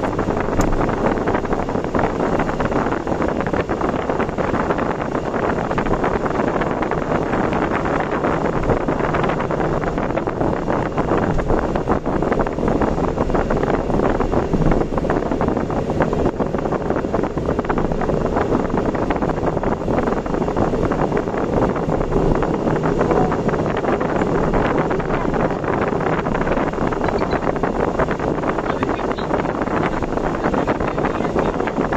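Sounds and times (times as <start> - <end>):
road noise: 0.0 - 31.9
wind rush: 0.0 - 31.9.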